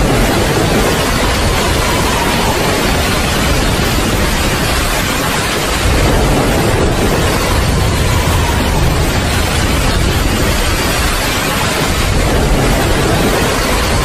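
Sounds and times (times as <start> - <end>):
deep low rumble: 0.0 - 14.0
waterfall rushing: 0.0 - 14.0.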